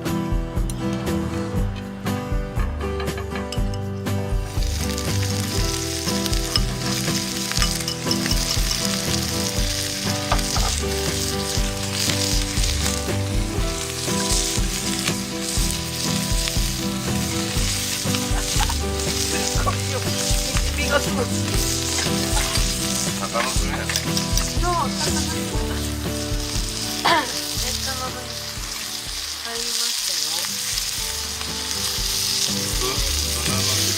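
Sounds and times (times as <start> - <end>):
oil sizzling in a pan: 4.3 - 33.9.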